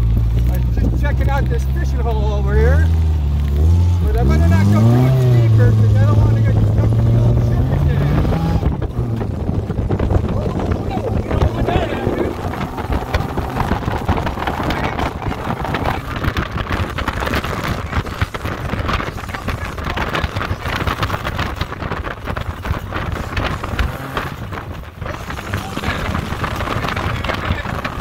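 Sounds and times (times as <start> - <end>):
car engine running: 0.0 - 28.0
car knocks and rattles: 0.0 - 28.0
wind buffeting microphone: 0.0 - 28.0.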